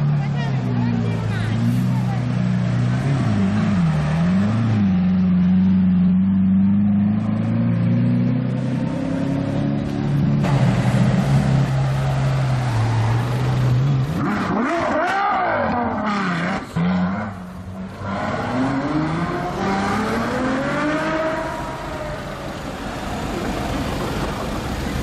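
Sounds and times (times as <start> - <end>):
supercar engine revving: 0.0 - 24.4.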